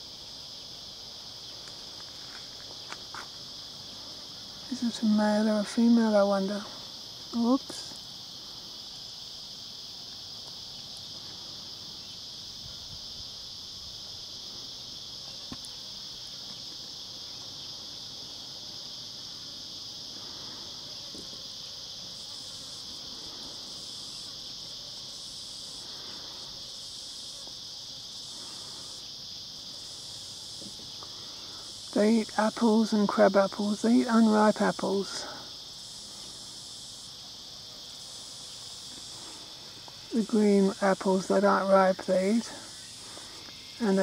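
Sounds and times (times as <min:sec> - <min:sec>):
cicadas droning: 0:00.0 - 0:44.0
higher pulsing insect call: 0:00.0 - 0:44.0.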